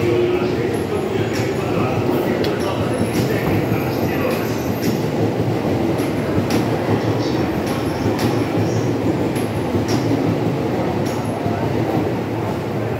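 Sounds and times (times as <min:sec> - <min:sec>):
train wheels rumbling on rail: 0:00.0 - 0:12.9.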